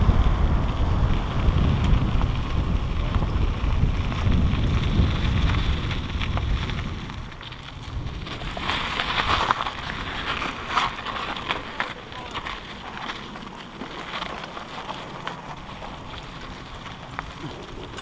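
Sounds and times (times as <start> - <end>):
bike tyres crunching on dirt: 0.0 - 18.0
wind buffeting microphone: 0.0 - 18.0.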